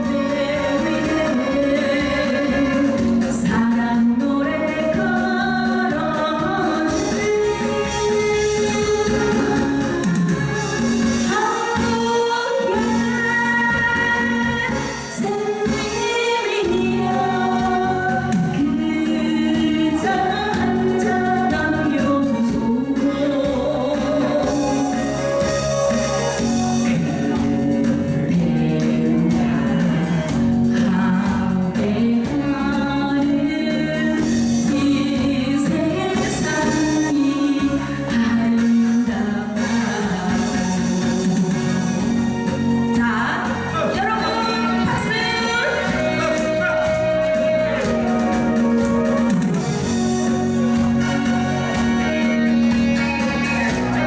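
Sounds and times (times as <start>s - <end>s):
instrumental accompaniment: 0.0s - 54.0s
woman singing: 0.0s - 54.0s.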